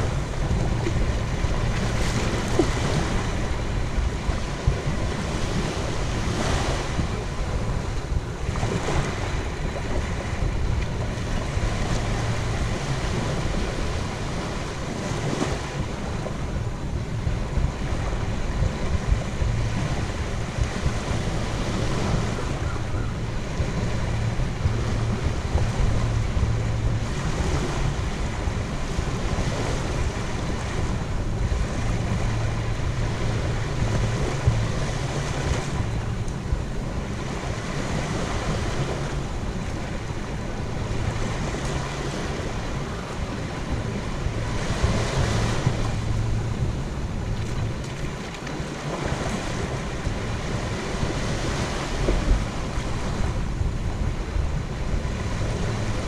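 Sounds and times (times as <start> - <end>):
small waves breaking on sand: 0.0 - 56.0
wind rumbling on microphone: 0.0 - 56.0.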